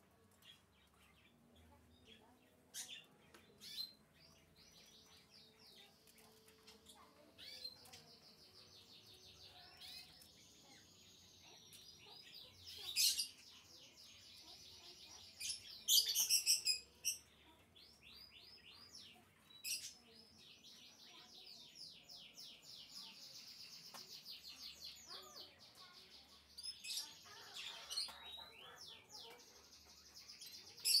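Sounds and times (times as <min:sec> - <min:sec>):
canary singing trills: 0:00.4 - 0:31.0
sharp canary chirps: 0:02.1 - 0:31.0.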